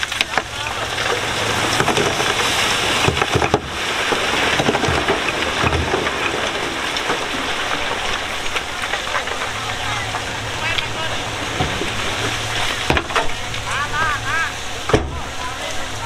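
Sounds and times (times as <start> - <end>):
diesel engine running: 0.0 - 16.0
gravel grinding and tumbling: 0.0 - 16.0.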